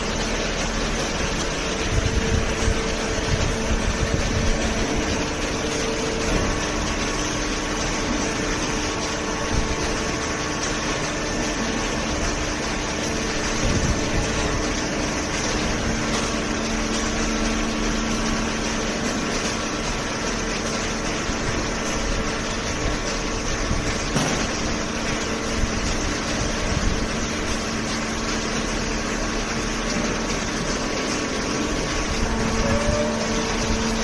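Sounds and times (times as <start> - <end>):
baler motor humming: 0.0 - 34.0.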